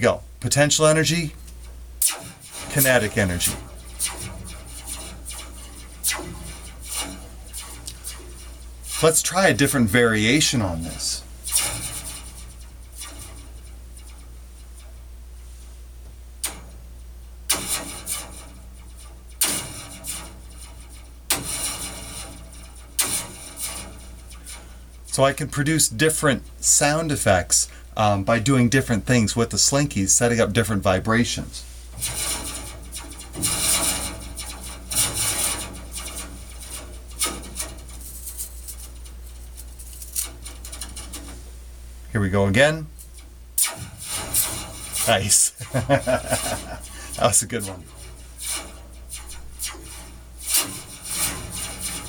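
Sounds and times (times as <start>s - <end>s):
steady low hum: 0.0s - 52.0s
slinky laser-like zap: 1.0s - 15.0s, 16.4s - 16.8s, 17.5s - 27.7s, 32.0s - 41.4s, 42.6s - 52.0s.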